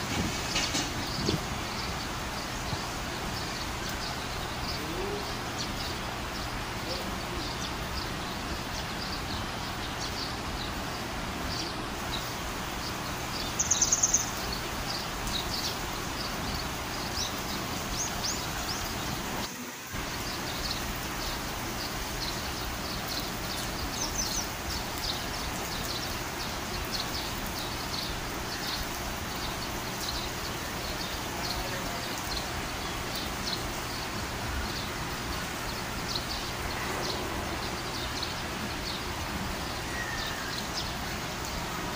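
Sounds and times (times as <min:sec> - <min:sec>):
rain falling on stone tiles: 0:00.0 - 0:41.9
rainwater running: 0:00.0 - 0:41.9
bird chirping: 0:00.1 - 0:41.6.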